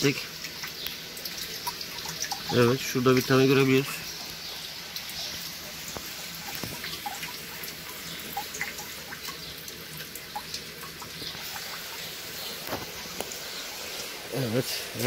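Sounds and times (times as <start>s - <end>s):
water dripping: 0.0s - 15.0s
water trickling: 0.0s - 15.0s.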